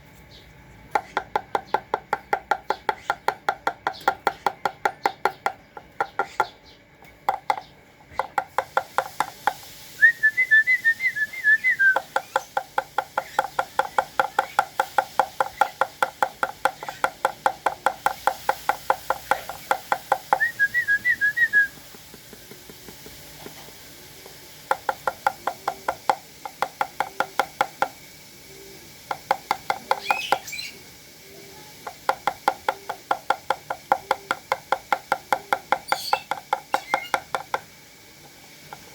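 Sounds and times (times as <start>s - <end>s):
dove pecking taps: 0.9s - 9.7s, 11.9s - 28.0s, 29.0s - 30.5s, 31.8s - 38.9s.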